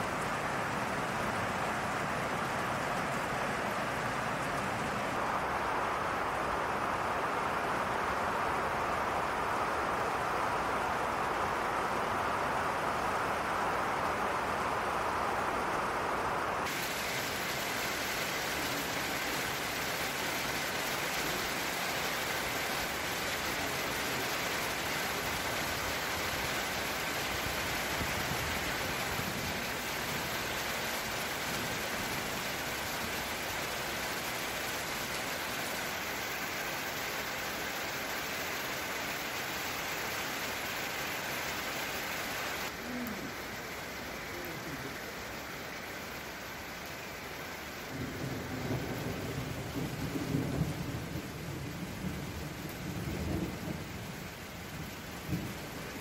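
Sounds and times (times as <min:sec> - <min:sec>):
gentle rain hiss: 0:00.0 - 0:56.0.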